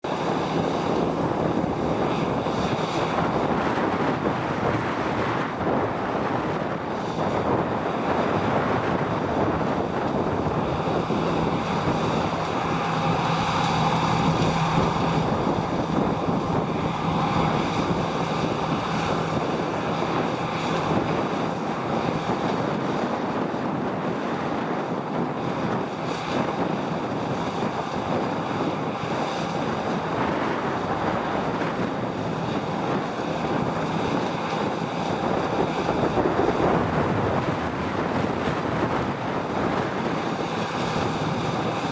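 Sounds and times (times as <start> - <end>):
harvest machinery running: 0.0 - 41.9
wind noise on microphone: 0.0 - 41.9.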